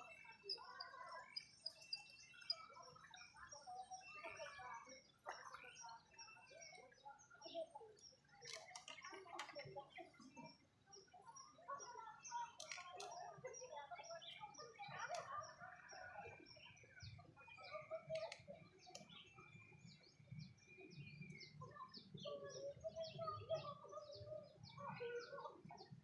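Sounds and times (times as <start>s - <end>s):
bird chirps: 0.0s - 26.0s.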